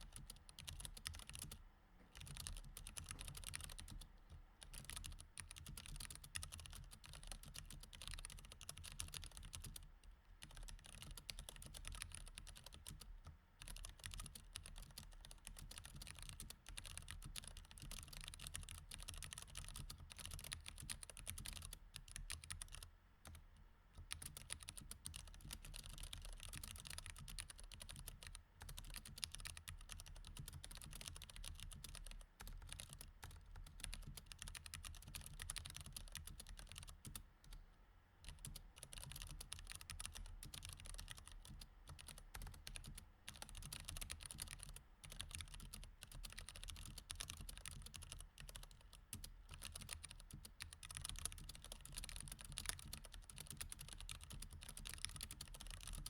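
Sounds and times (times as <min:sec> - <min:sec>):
mechanical keyboard typing: 0:00.0 - 0:23.4, 0:24.0 - 0:37.2, 0:38.2 - 0:56.0.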